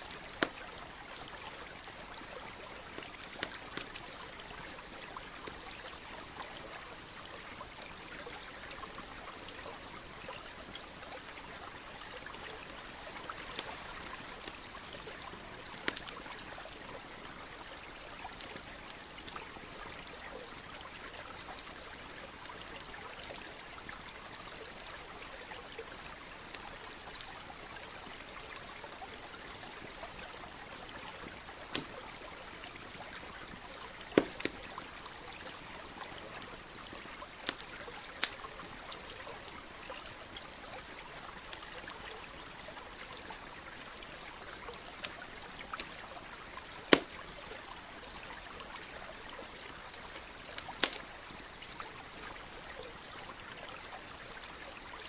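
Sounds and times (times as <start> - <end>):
campfire crackling: 0.0 - 55.0
stream trickling: 0.0 - 55.0.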